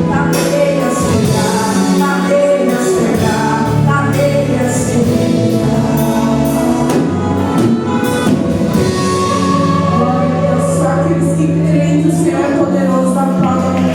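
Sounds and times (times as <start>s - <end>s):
gospel singing with band: 0.0s - 13.9s.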